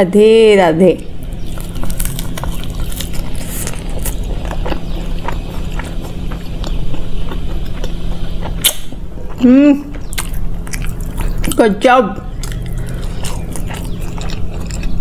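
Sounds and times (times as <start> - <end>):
low hum: 0.0 - 15.0
chewing with wet clicks: 1.2 - 15.0.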